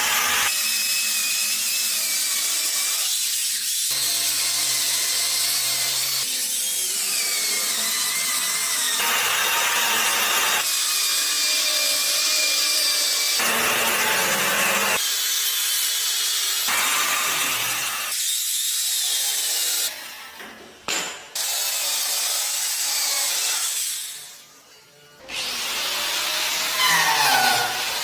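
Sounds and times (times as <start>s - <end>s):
power tools cutting wood: 0.0s - 20.6s, 21.4s - 28.0s.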